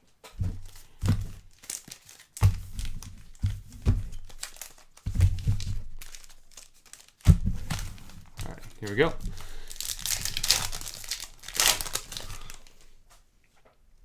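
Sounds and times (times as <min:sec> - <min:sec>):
plastic wrapping crinkling and tearing: 0:00.3 - 0:13.0.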